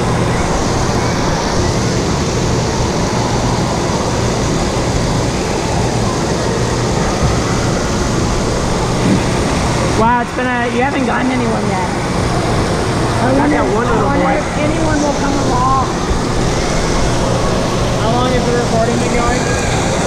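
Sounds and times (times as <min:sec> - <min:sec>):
distant crowd: 0:00.0 - 0:20.0
rushing and splashing water: 0:00.0 - 0:20.0.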